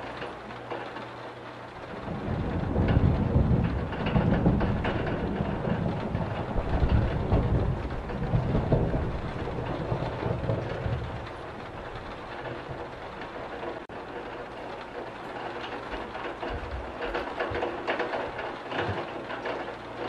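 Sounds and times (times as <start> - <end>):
steady rain: 0.0 - 20.0
rolling thunder: 1.8 - 20.0.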